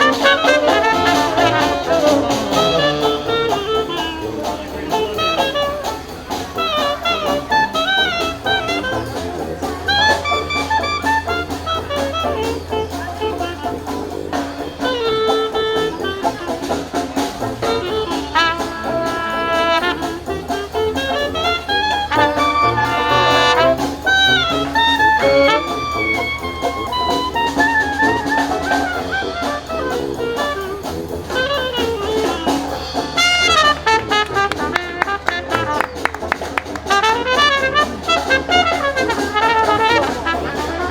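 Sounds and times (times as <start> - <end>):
drums: 0.0 - 40.9
jazz band playing: 0.0 - 40.9
saxophone: 0.0 - 40.9
trombone: 0.0 - 40.9
trumpet: 0.0 - 40.9.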